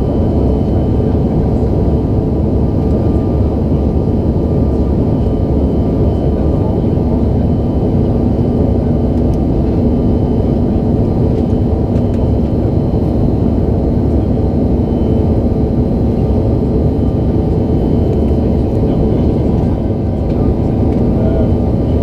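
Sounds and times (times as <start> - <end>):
jet engine drone and airflow: 0.0 - 22.0.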